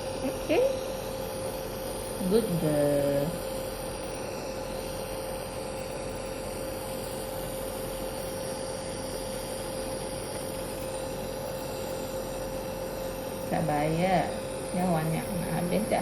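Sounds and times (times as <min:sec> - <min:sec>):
nebuliser compressor hum: 0:00.0 - 0:16.0.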